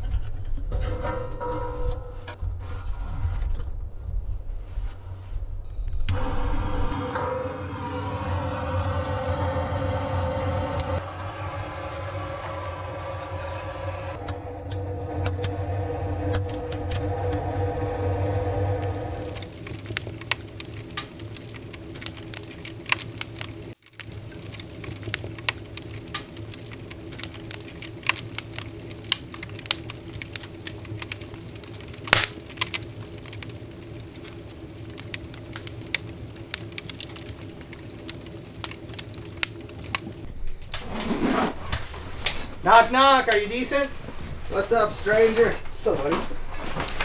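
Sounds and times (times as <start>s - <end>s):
steady low hum: 0.0s - 40.7s
wood fire crackling: 0.0s - 47.0s.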